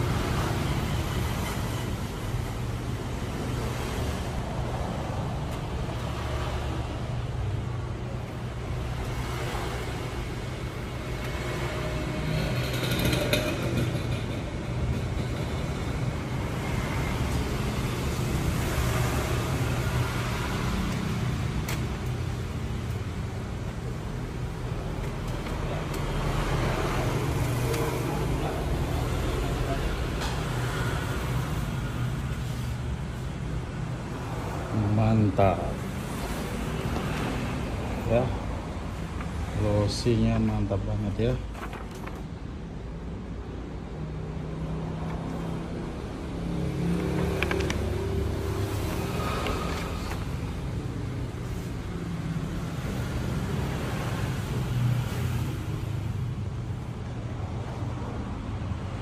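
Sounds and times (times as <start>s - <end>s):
copier printing hum and whir: 0.0s - 34.8s, 35.8s - 56.2s.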